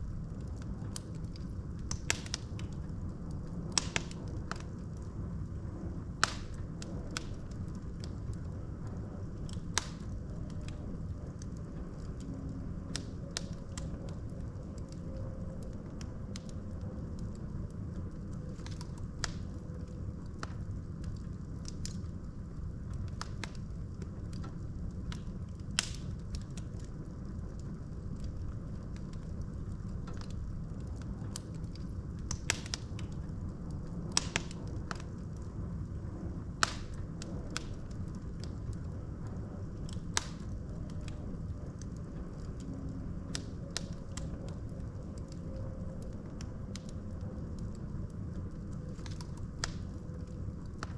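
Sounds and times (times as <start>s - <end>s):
logs popping and crackling: 0.0s - 50.9s
wood fire burning: 0.0s - 50.9s.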